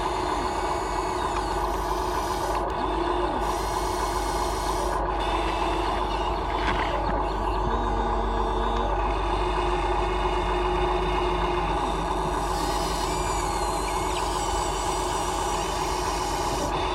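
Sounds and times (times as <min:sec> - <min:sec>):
small electric motors whirring: 0:00.0 - 0:16.9.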